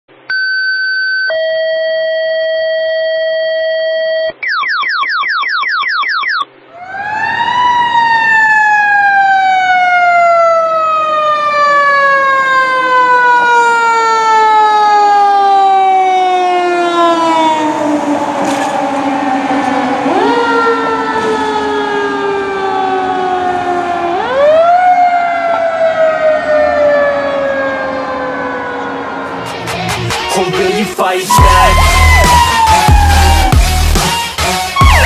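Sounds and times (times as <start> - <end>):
electronic siren: 1.2 - 29.7, 31.3 - 35.0.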